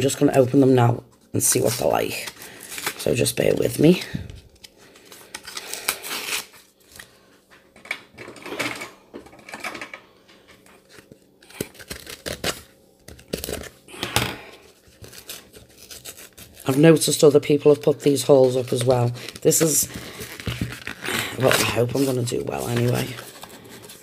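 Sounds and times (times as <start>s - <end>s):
paper packaging rustling and ripping: 1.1s - 24.0s.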